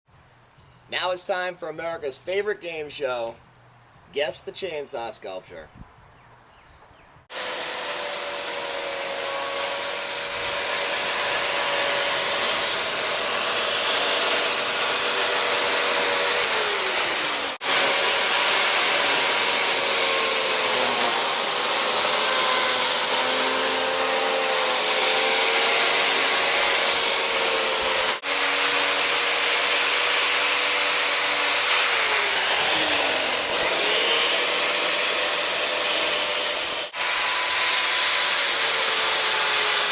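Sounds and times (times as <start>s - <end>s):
chainsaw carving wood: 7.3s - 39.9s.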